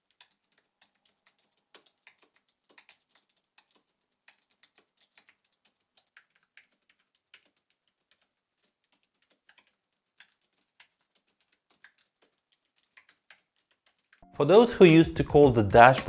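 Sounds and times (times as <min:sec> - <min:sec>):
keyboard key clicks typing: 0:00.0 - 0:14.3.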